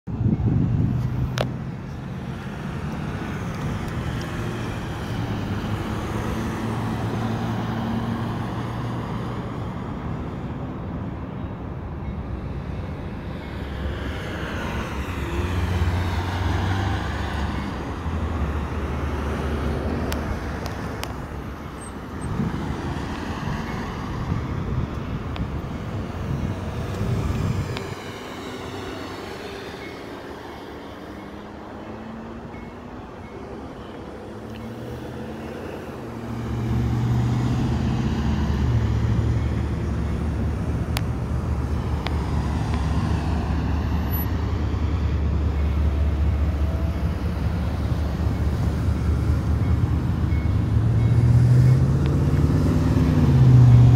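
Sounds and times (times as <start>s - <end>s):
cars passing: 0.1s - 53.9s.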